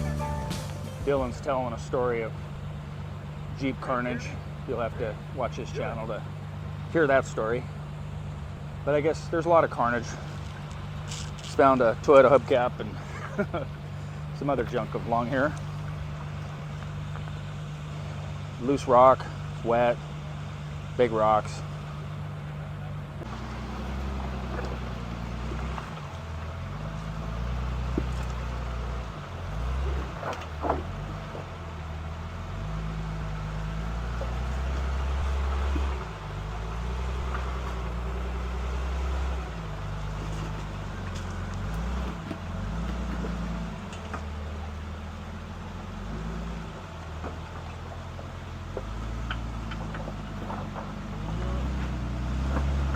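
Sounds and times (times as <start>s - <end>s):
truck engine at low revs: 0.0s - 52.9s.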